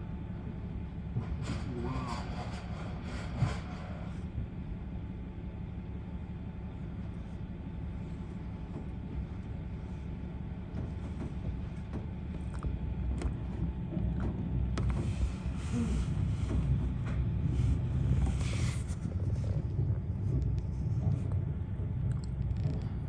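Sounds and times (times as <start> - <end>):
garbage truck diesel engine: 0.0 - 23.0.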